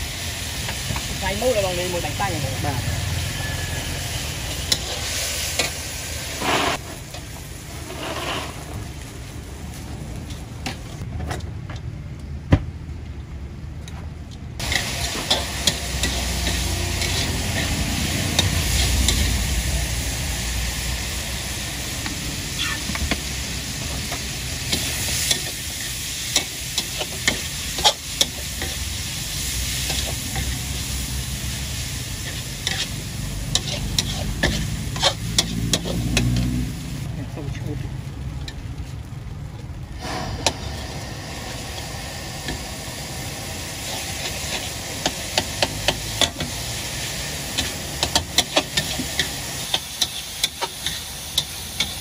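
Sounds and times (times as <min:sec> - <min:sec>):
food sizzling in a wok: 0:00.0 - 0:11.0, 0:14.6 - 0:52.0
ladle scraping wok: 0:00.7 - 0:09.0, 0:14.6 - 0:37.1, 0:40.0 - 0:52.0.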